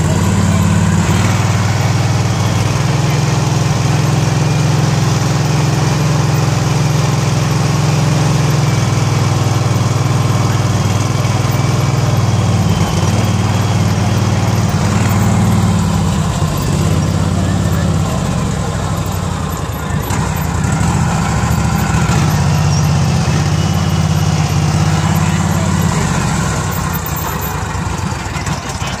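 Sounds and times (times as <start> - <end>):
utility vehicle engine running: 0.0 - 29.0.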